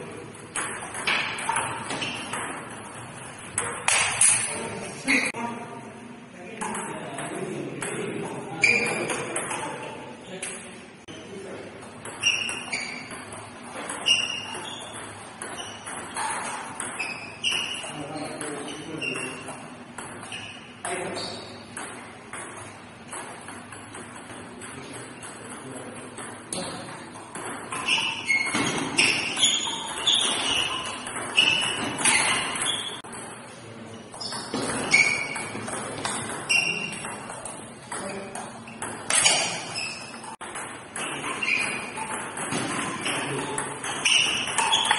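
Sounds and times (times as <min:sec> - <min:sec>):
ping pong ball hitting bats: 0:00.0 - 0:05.4, 0:06.4 - 0:44.9
ping pong ball bouncing on table: 0:00.4 - 0:04.5, 0:06.5 - 0:10.6, 0:11.8 - 0:33.5, 0:34.1 - 0:44.9.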